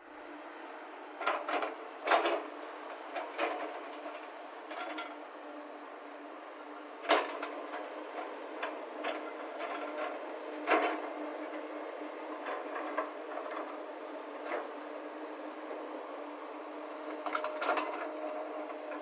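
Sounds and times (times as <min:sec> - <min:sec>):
excavator diesel engines running: 0:00.0 - 0:19.0.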